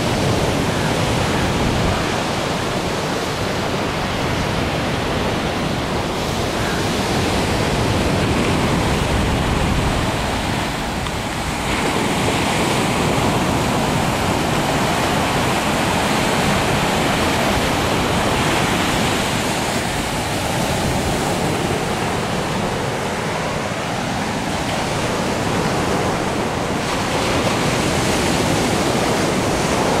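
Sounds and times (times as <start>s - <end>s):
sea surf washing onto beach: 0.0s - 30.0s
wind rumbling on microphone: 0.0s - 30.0s.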